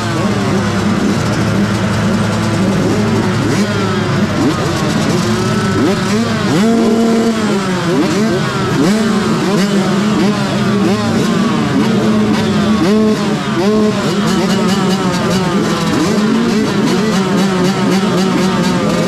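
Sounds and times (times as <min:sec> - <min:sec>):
motocross bikes revving: 0:00.0 - 0:19.0
motorcycle engine at steady revs: 0:00.0 - 0:19.0.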